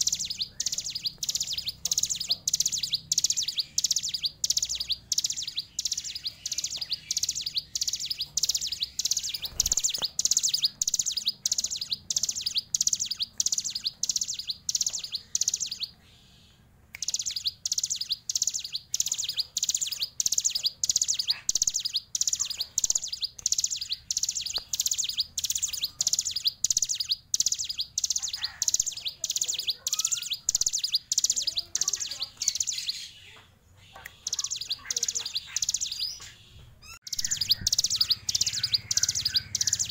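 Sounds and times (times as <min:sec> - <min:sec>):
bird singing trilled song: 0:00.0 - 0:39.9.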